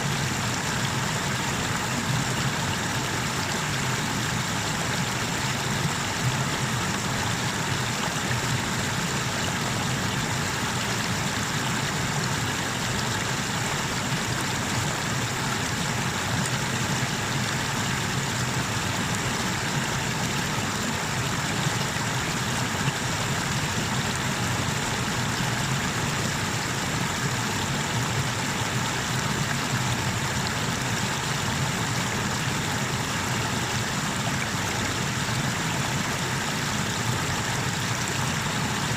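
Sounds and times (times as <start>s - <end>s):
water pouring over waterfall: 0.0s - 38.9s.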